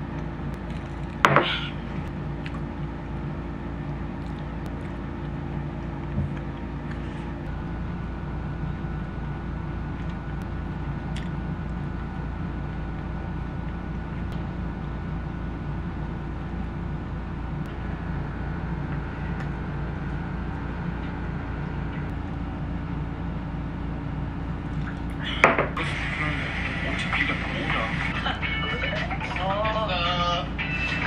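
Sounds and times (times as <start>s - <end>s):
machine-like hum: 0.0s - 31.0s.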